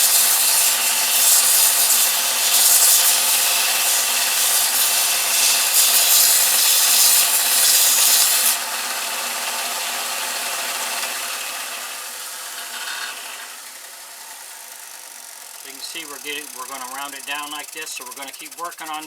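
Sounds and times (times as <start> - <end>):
belt sander grinding wood: 0.0 - 19.0
motor winding down: 0.0 - 19.0.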